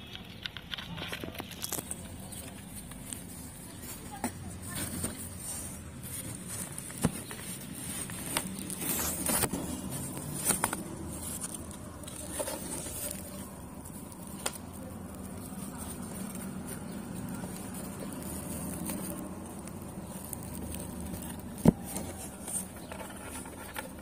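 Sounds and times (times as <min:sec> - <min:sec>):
rustling of bedding and straw: 0:01.4 - 0:24.0.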